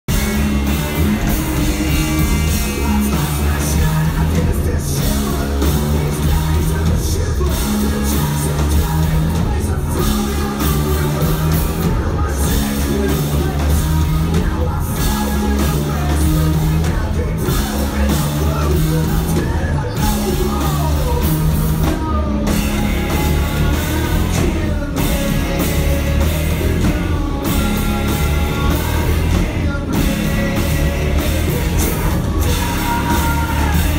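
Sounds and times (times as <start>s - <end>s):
live rock band playing: 0.0s - 33.9s
person singing: 0.0s - 33.9s.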